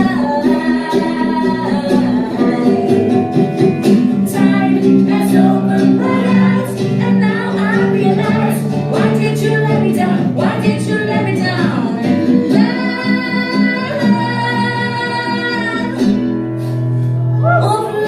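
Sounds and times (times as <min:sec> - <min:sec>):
live rock band: 0:00.0 - 0:18.0.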